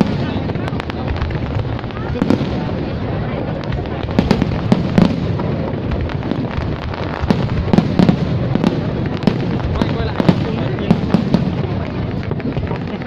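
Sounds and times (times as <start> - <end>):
fireworks bursts and cracks: 0.0 - 13.0.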